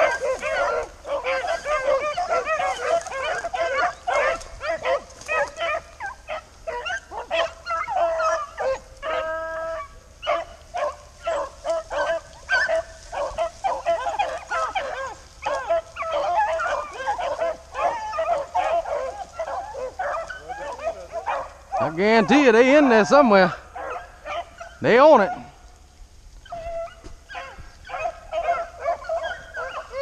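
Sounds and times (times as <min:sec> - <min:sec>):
dog howling: 0:00.0 - 0:25.5, 0:26.5 - 0:30.0
hounds yelping and baying: 0:00.0 - 0:30.0.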